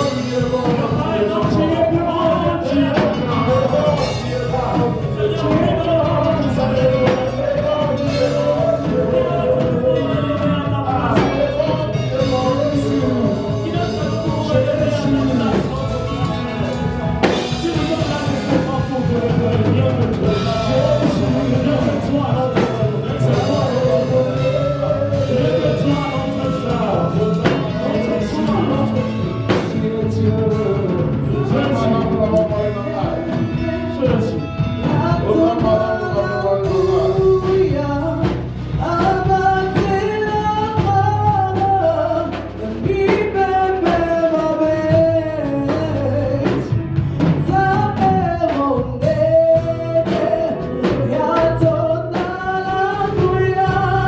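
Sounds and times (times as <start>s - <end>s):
band with drums and bass: 0.0s - 54.0s
people singing: 0.0s - 54.0s.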